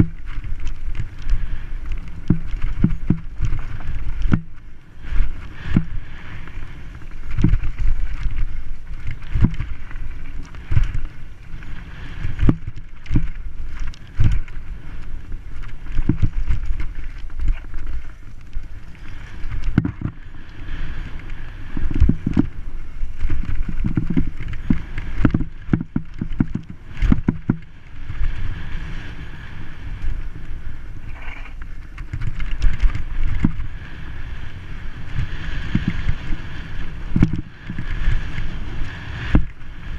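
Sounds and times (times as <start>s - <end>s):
bike knocking and rattling: 0.0s - 29.3s, 30.0s - 39.9s
wind buffeting microphone: 0.0s - 39.9s.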